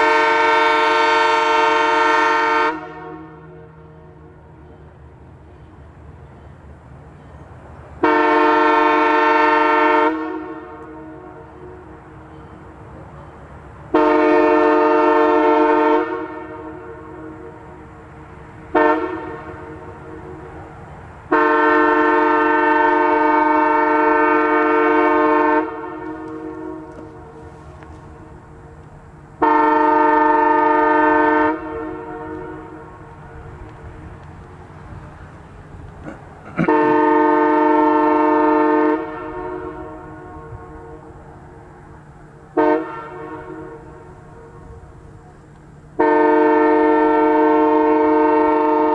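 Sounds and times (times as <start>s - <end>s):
train air horn blasts: 0.0s - 4.8s, 8.0s - 12.8s, 13.9s - 28.8s, 29.4s - 34.0s, 36.4s - 41.7s, 42.3s - 45.3s, 45.9s - 48.9s.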